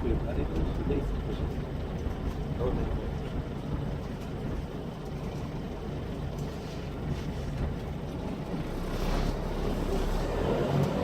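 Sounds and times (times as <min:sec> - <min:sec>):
coach engine low drone: 0:00.0 - 0:11.0.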